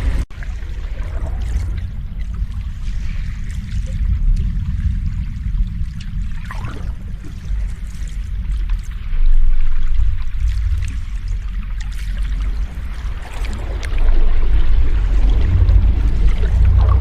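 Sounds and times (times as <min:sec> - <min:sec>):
ocean waves washing: 0:00.0 - 0:17.0.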